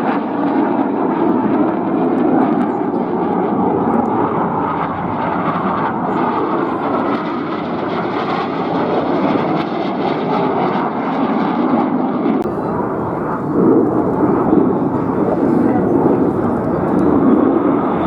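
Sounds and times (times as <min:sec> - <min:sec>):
aircraft engine drone: 0:00.2 - 0:09.8, 0:12.4 - 0:18.0.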